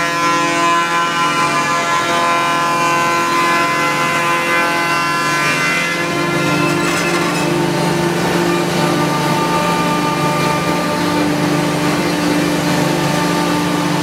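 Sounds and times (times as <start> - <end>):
cnc wood router whining: 0.0 - 14.0.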